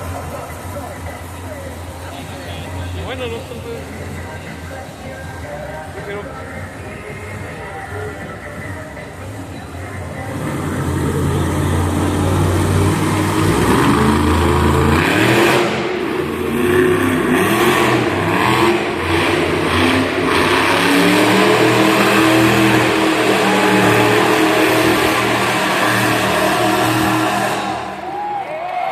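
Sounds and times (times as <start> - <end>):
monster truck engine revving: 0.0 - 28.5.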